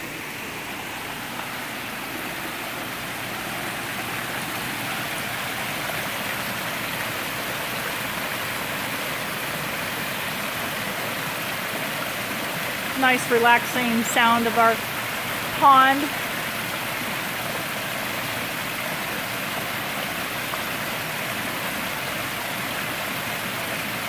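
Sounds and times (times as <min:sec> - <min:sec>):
waterfall pouring into pond: 0:00.0 - 0:24.0.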